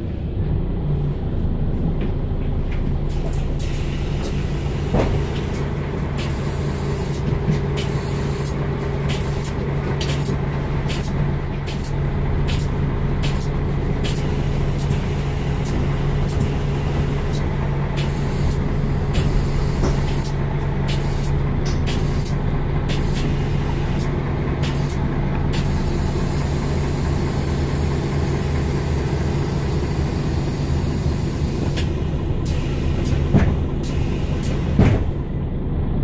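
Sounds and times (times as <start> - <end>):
bus engine low hum: 0.0 - 36.0.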